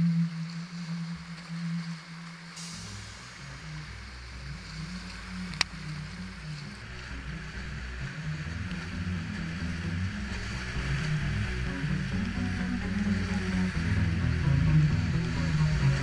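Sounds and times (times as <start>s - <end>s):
background music with bass line: 0.0s - 16.0s
river whitewater rushing: 0.0s - 16.0s.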